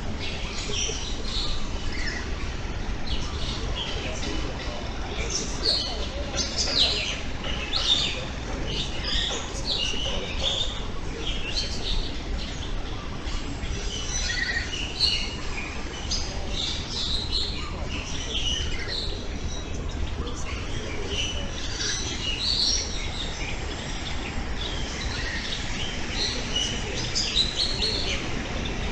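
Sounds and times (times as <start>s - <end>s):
aviary birds chirping and whistling: 0.0s - 28.9s
steady low rumble: 0.0s - 28.9s.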